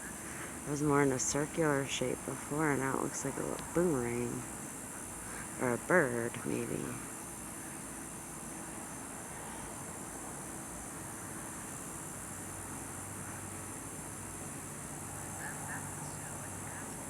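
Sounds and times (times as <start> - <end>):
constant hiss: 0.0 - 17.0
faint low hum: 0.0 - 17.0.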